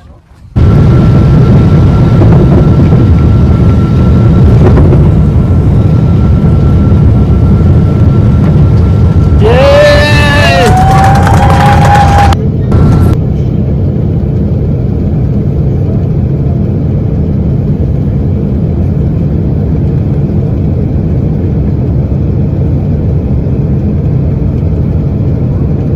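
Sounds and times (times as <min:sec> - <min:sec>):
low engine rumble: 0:00.0 - 0:25.9.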